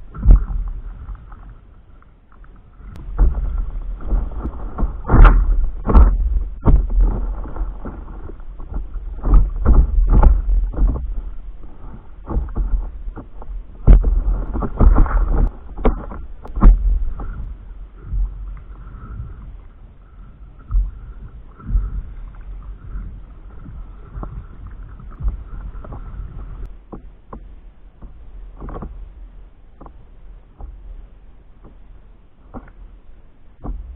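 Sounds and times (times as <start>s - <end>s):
wind on microphone: 0.0s - 1.8s, 2.5s - 29.4s
paddle strokes: 0.0s - 33.9s
water slapping against board: 0.0s - 33.9s.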